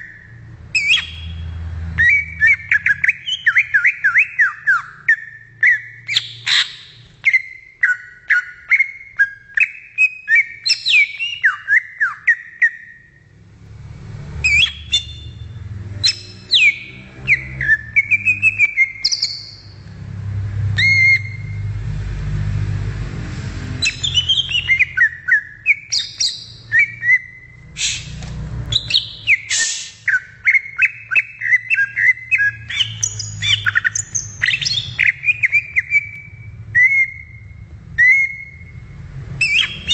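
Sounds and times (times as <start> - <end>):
bird whistling and chirping: 0.0 - 13.2, 14.4 - 19.8, 20.8 - 21.7, 23.8 - 39.9.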